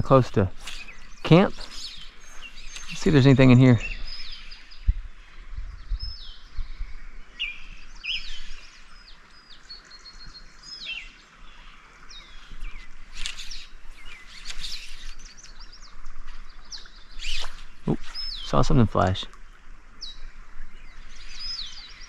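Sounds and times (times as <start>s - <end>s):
songbirds chirping and whistling: 0.0s - 22.0s.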